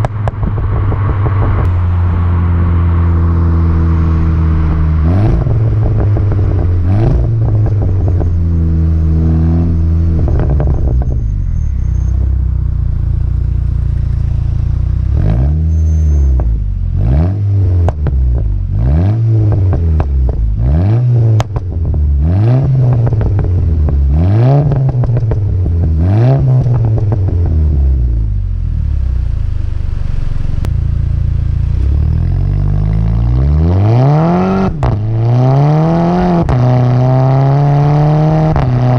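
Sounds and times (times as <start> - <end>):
exhaust crackles and pops: 0.0 - 15.5, 17.7 - 37.0
car engine idling and revving: 0.0 - 38.9.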